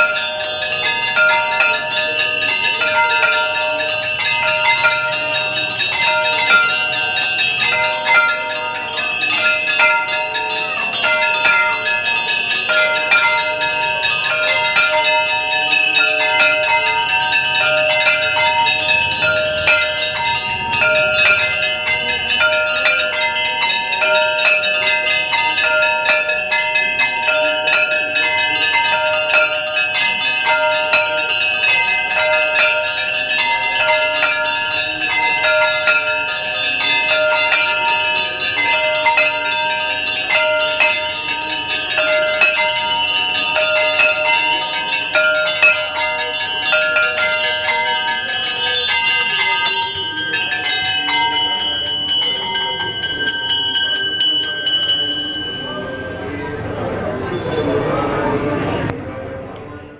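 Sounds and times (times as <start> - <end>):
brass bells ringing rapidly: 0.0 - 56.4.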